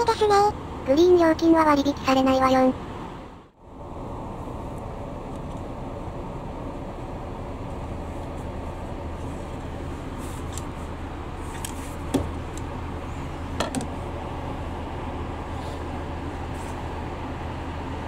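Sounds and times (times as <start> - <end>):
low hum of train car: 0.0 - 18.0.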